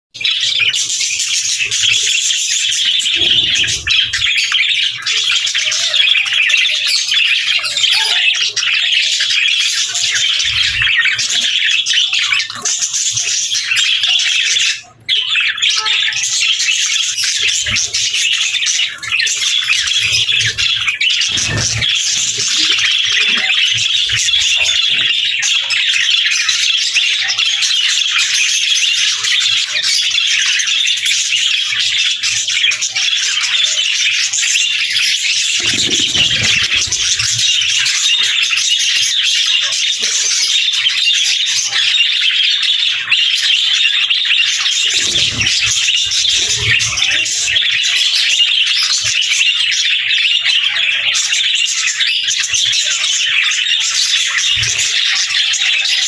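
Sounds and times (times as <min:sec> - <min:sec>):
budgerigars chirping: 0:00.2 - 0:56.0.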